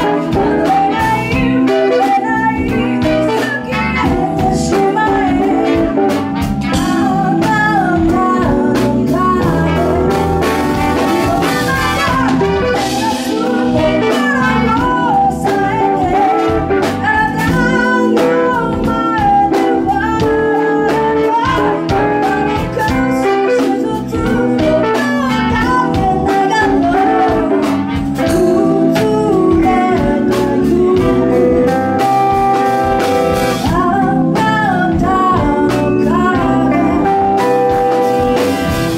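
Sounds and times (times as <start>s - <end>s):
singers: 0.0s - 32.0s
bass: 0.0s - 38.9s
drum kit: 0.0s - 38.9s
electric guitars: 0.0s - 38.9s.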